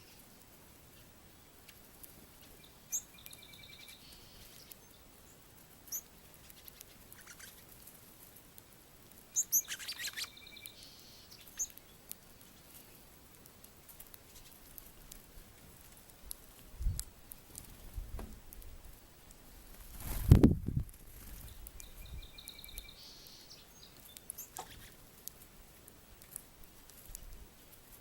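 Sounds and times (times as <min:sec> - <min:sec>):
small birds chirping: 0:00.0 - 0:08.5, 0:09.1 - 0:28.0.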